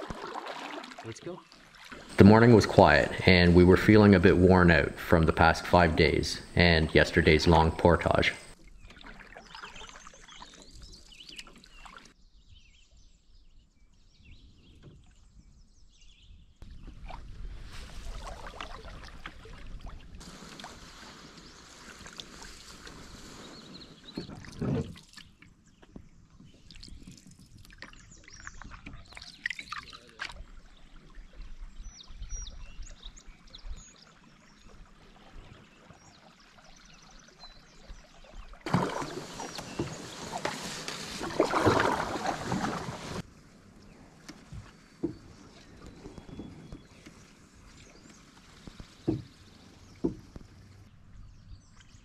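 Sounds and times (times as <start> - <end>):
paddle pulling through water: 0.0 - 12.2, 16.7 - 52.0.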